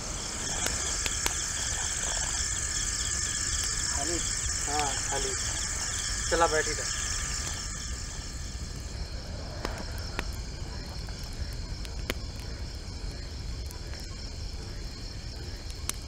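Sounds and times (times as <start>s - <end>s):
low rumble: 0.0s - 13.5s
campfire crackling: 0.0s - 16.0s
crickets chirring: 0.0s - 16.0s.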